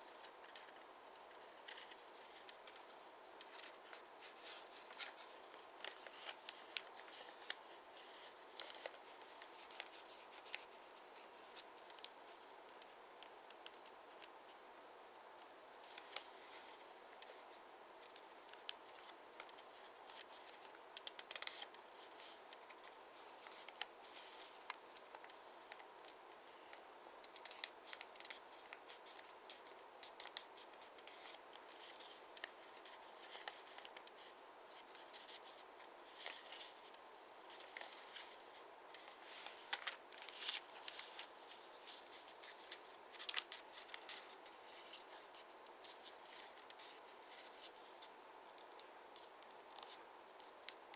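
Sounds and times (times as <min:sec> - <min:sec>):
paper rustling and folding: 0:00.0 - 0:14.3, 0:15.8 - 0:50.9.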